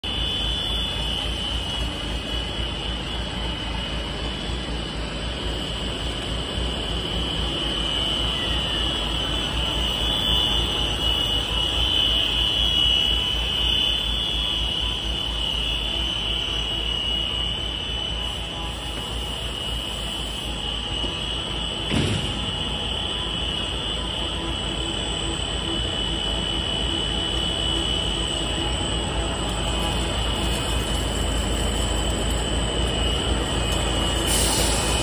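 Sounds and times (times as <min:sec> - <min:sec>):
machine drone with high whine: 0:00.0 - 0:35.0.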